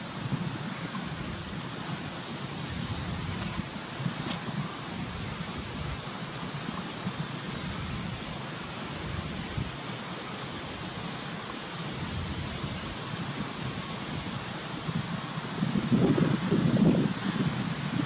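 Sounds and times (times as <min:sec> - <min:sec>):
outdoor hiss: 0:00.0 - 0:18.0
wind rumbling on microphone: 0:00.0 - 0:18.0.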